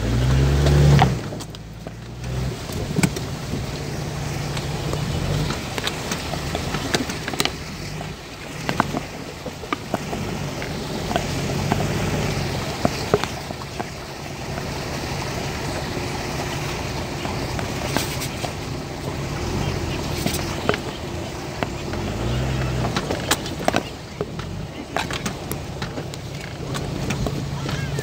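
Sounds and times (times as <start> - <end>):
body and suspension rattles: 0.0 - 28.0
engine running at low revs: 0.0 - 28.0.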